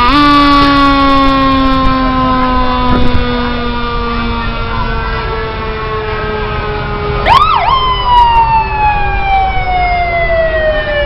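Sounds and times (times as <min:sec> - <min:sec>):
fire truck siren: 0:00.0 - 0:11.0.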